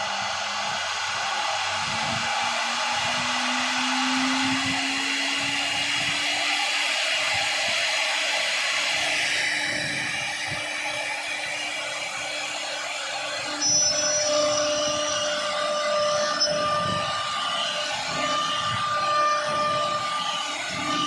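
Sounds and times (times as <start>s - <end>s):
router spindle motor whining: 0.0s - 21.0s.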